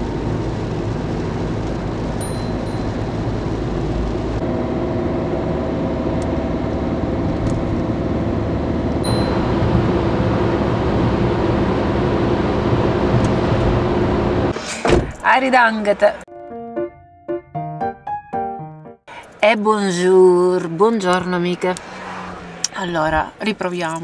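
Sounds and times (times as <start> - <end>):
car road and engine noise: 0.0 - 16.3, 19.1 - 24.0.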